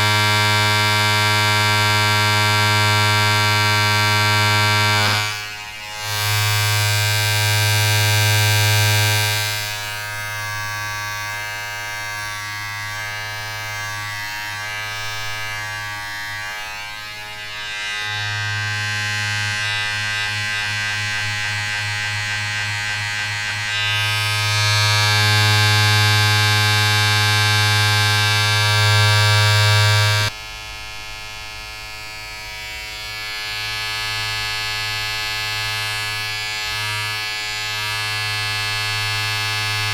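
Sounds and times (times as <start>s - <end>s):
small electric motor buzzing: 0.0s - 30.7s, 31.3s - 39.9s.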